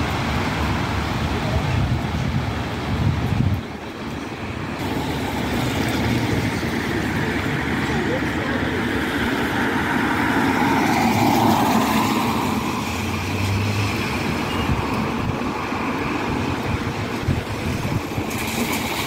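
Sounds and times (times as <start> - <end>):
vehicle passing on wet road: 0.0 - 19.0.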